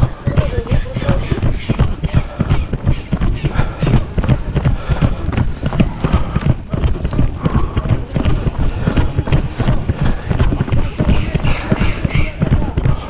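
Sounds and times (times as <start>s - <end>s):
running footsteps on stone: 0.0s - 13.0s.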